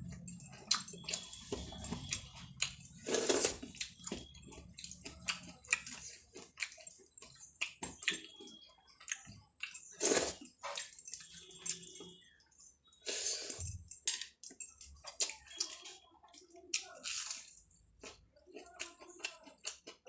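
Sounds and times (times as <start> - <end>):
wet chewing and squishing: 0.0 - 13.0, 13.6 - 20.0.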